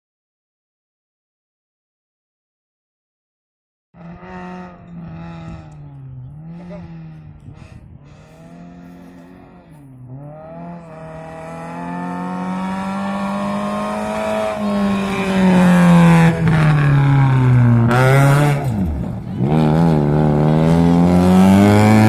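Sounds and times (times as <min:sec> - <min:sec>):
rally car engine at high revs: 0:04.0 - 0:22.0.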